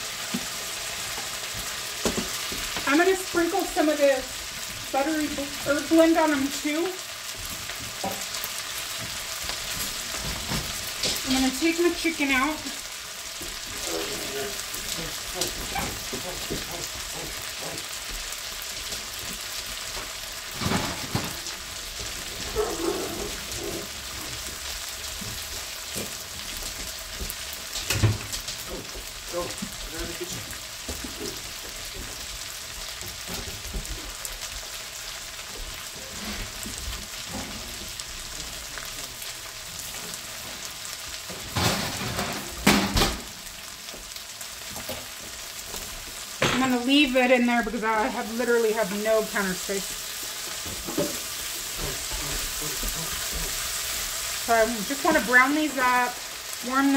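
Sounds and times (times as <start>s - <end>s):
gnocchi sizzling in a skillet: 0.0s - 56.9s.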